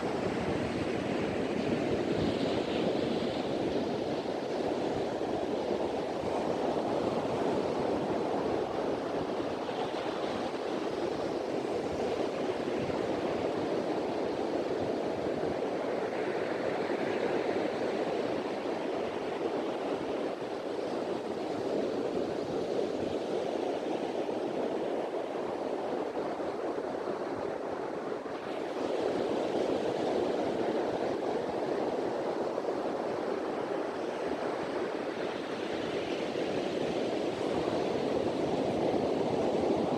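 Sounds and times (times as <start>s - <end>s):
sea waves washing onto beach: 0.0s - 39.9s
wind: 0.0s - 39.9s.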